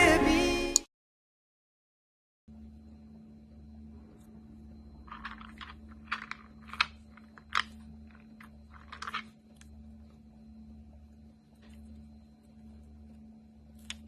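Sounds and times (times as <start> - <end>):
low electrical hum: 2.5 - 14.0.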